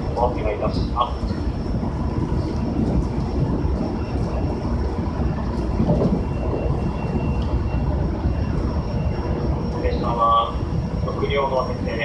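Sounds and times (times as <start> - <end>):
faint high whine: 0.0 - 12.0
wheels rumbling on rail: 0.0 - 12.0.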